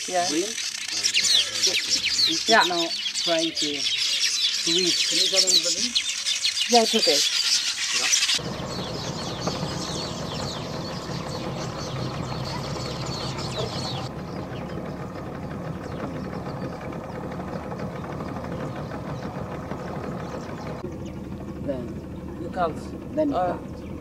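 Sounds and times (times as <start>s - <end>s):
boat motor running: 0.0s - 3.9s, 8.3s - 24.0s
birds chirping: 0.0s - 24.0s.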